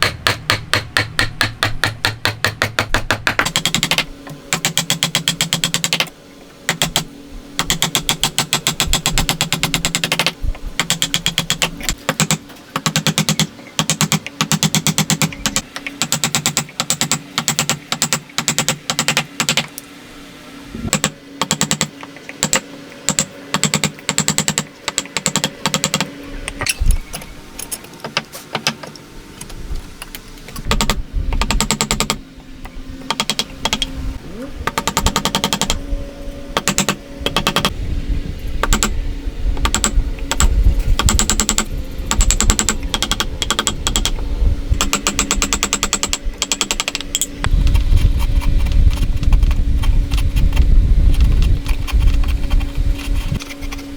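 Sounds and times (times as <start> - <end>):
low tool hum: 0.0 - 53.9.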